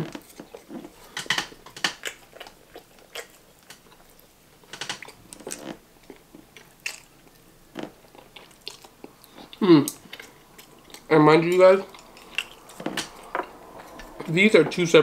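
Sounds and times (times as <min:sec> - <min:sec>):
wet chewing and lip smacks: 0:00.1 - 0:14.3.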